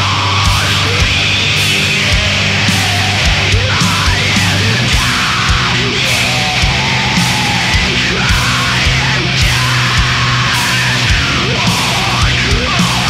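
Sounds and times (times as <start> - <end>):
distorted guitars and bass: 0.0 - 13.0.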